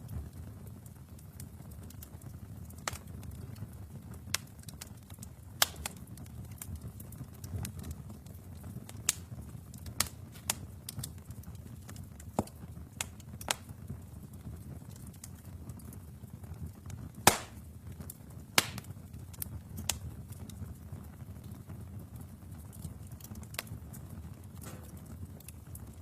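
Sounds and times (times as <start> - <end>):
wood fire burning with crackles: 0.0 - 26.0.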